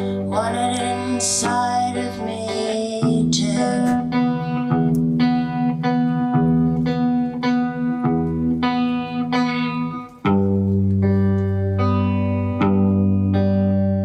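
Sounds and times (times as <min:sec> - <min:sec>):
guitar picking ringing notes: 0:00.0 - 0:14.0.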